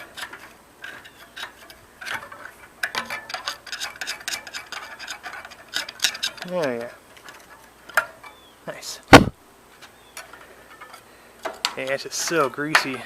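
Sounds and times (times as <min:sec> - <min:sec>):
light scraping: 0:00.0 - 0:13.0.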